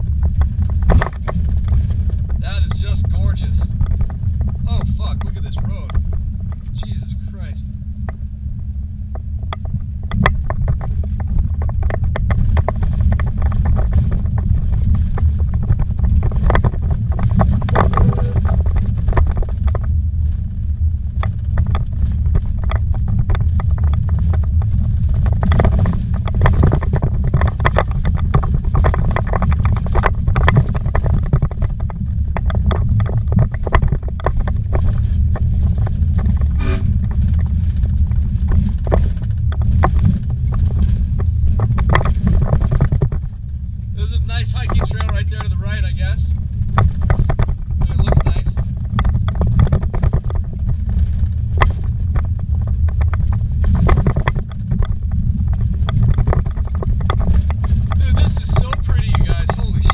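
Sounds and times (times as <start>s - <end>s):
engine and tyre rumble: 0.0s - 59.9s
knocks and rattles over bumps: 0.0s - 59.9s.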